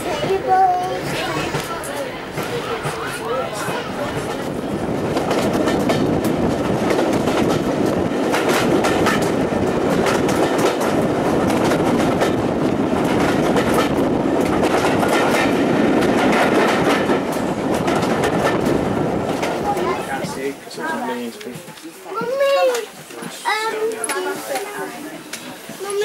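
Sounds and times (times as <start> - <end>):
train carriages rumbling: 0.0 - 26.0.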